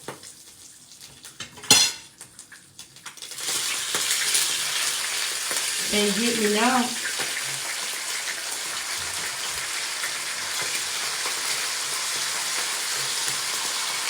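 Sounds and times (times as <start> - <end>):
bacon sizzling in a frying pan: 0.0 - 14.0.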